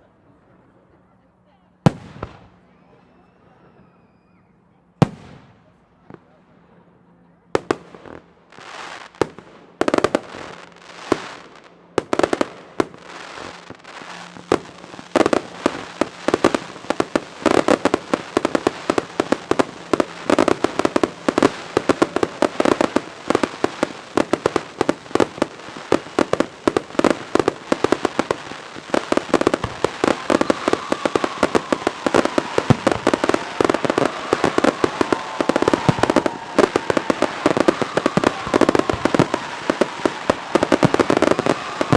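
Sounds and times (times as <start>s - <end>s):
fireworks bangs and crackling: 1.8s - 2.6s, 5.0s - 6.4s, 7.6s - 41.9s
faint fireworks whistling: 1.9s - 41.9s.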